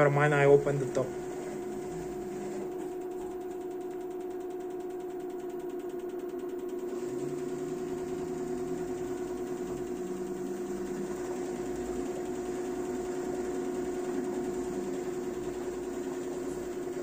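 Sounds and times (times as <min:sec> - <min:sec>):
washing machine spin hum: 0:00.0 - 0:17.0.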